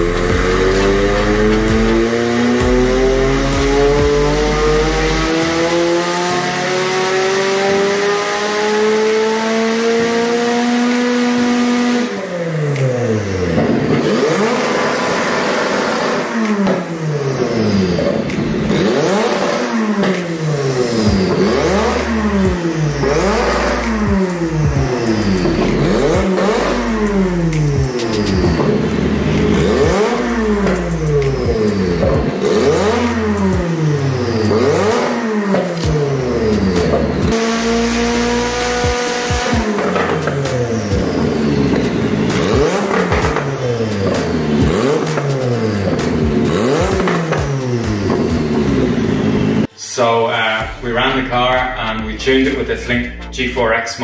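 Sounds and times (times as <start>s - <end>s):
engine throttle blips: 0.0s - 49.7s
car engine revving under full load: 0.0s - 49.8s
exhaust crackles: 0.0s - 54.0s.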